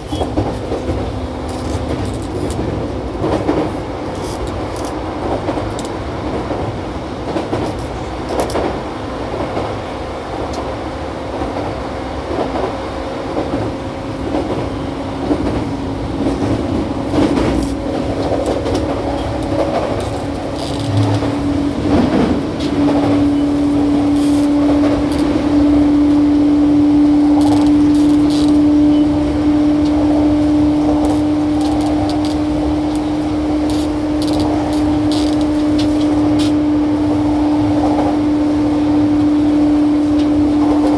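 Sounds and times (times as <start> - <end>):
clicks of train wheels: 0.0 - 9.7, 12.3 - 36.6, 39.1 - 40.9
train motor humming: 0.0 - 40.9
train wheels rumbling on rails: 0.0 - 40.9.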